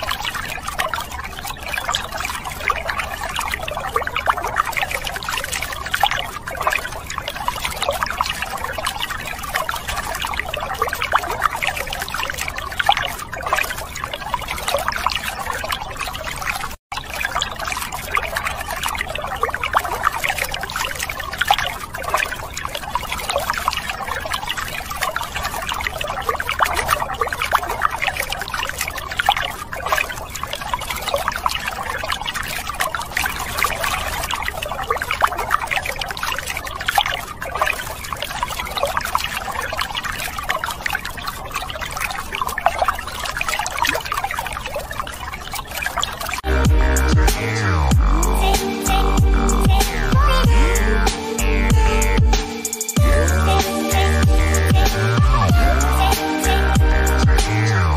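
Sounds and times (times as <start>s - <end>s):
water splashing on plastic toys: 0.0s - 57.9s.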